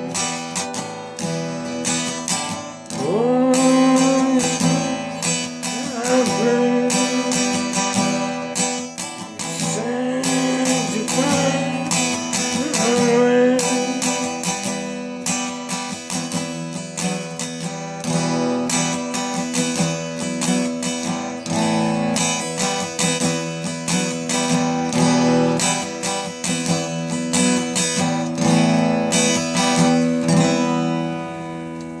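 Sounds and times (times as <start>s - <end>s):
strummed acoustic guitar: 0.0s - 32.0s.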